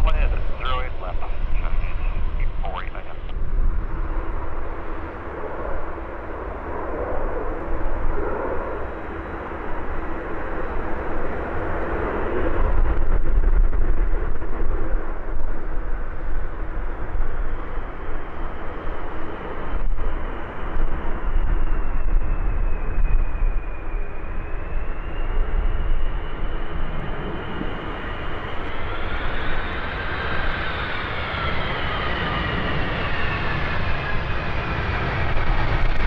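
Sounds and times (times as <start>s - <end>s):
jet engines rushing: 0.0s - 36.0s.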